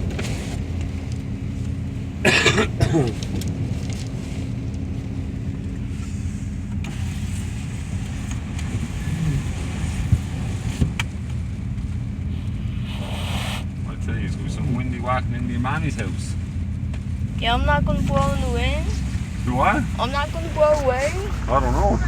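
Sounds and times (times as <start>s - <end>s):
wind and rain on car: 0.0s - 2.3s, 3.0s - 22.0s
car engine running: 0.0s - 22.0s.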